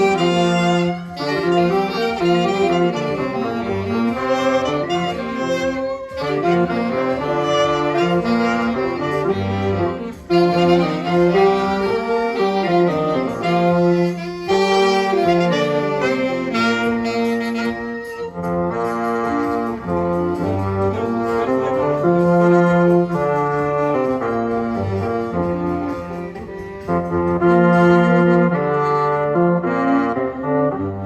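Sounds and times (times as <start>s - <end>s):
amateur band playing: 0.0s - 31.0s.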